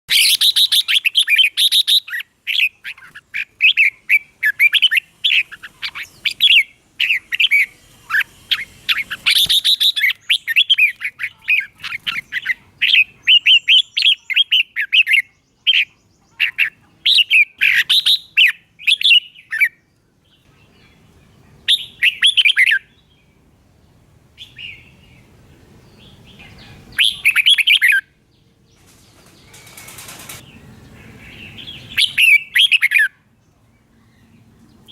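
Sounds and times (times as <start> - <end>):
bird singing warbling chirps: 0.1 - 34.9.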